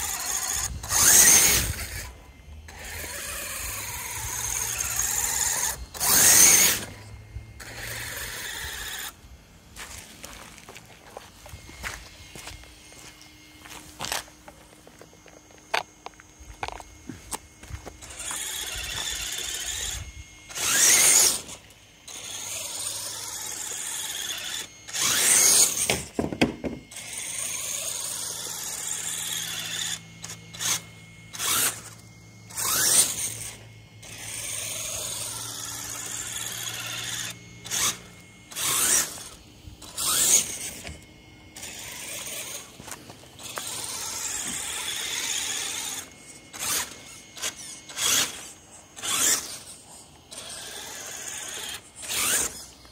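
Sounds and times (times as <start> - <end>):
electric motor and gears whining: 0.0 - 52.9
short grinding bursts: 0.0 - 52.9.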